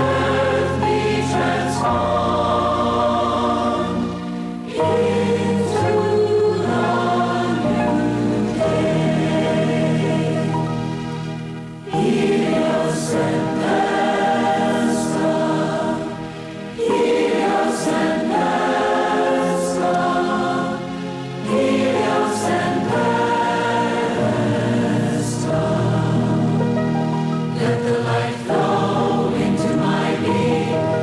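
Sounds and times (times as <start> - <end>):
congregation singing a chant: 0.0 - 31.0.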